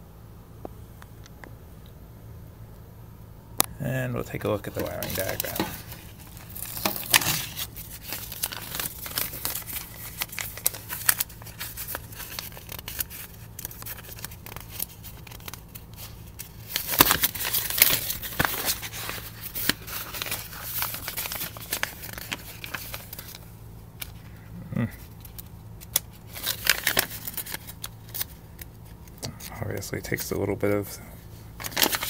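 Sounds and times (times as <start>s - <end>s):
paper crinkling and rustling: 4.4s - 23.4s, 25.0s - 32.0s.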